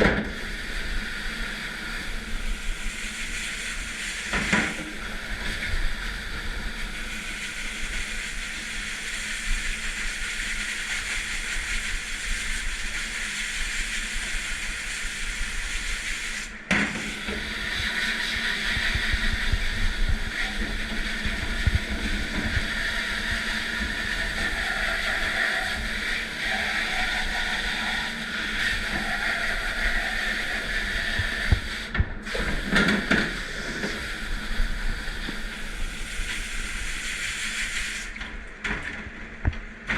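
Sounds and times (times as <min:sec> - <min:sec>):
spraying water hiss: 0:00.3 - 0:38.2.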